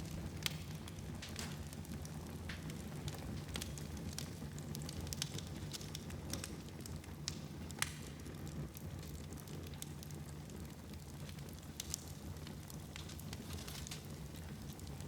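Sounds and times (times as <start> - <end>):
fire crackling and popping: 0.0 - 15.0
wood fire rumbling: 0.0 - 15.0.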